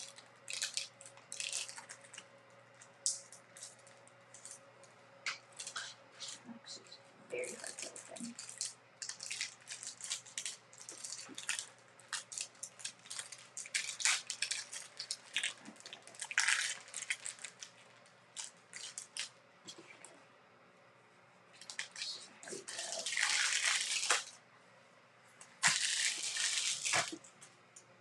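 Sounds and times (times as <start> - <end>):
plastic wrapping crinkling: 0.0 - 4.6, 5.3 - 6.4, 7.3 - 19.9, 21.6 - 24.4, 25.5 - 27.4.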